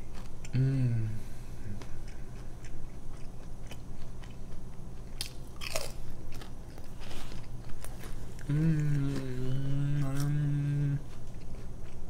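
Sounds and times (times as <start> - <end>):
chewing crunchy pizza crust: 0.0 - 12.0.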